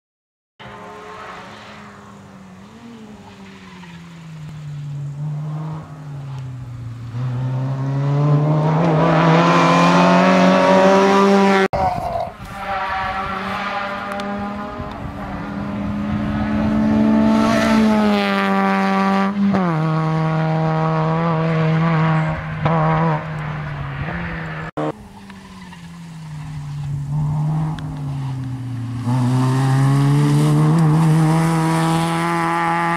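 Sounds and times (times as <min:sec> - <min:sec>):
rally car engine revving past: 0:00.6 - 0:12.3, 0:12.9 - 0:24.9, 0:25.7 - 0:32.9.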